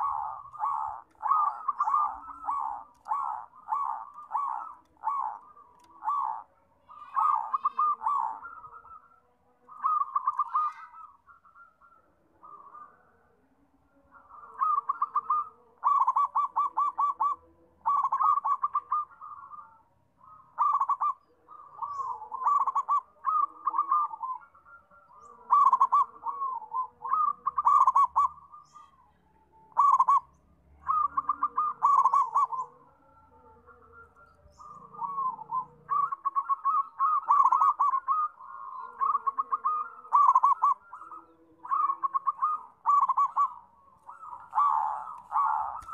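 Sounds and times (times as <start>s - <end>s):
dove cooing: 0.0s - 45.9s.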